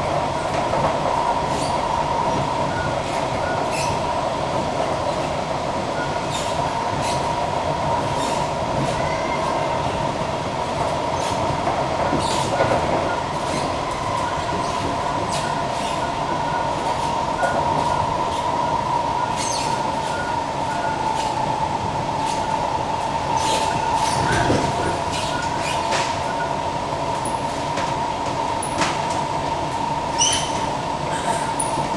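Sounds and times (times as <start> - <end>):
train running noise: 0.0 - 31.9.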